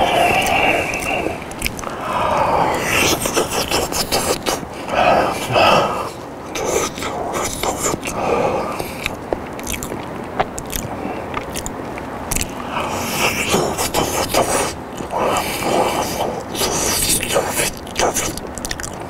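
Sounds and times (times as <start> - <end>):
biting and chewing mouth sounds: 0.0 - 19.0.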